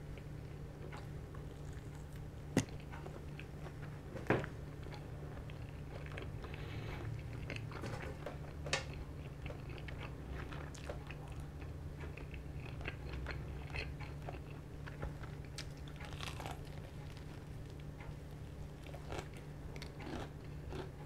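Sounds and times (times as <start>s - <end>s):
chewing and crunching: 0.0s - 21.0s.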